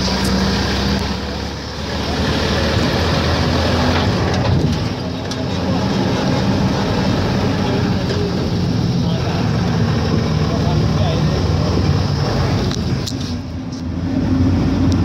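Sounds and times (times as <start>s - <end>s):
low engine hum: 0.0s - 15.0s
road noise: 0.0s - 15.0s.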